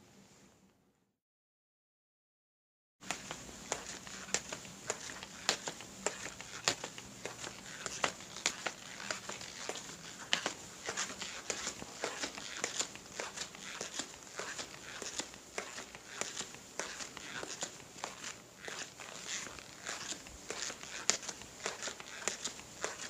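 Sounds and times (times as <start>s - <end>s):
footsteps clicking: 3.0s - 23.0s.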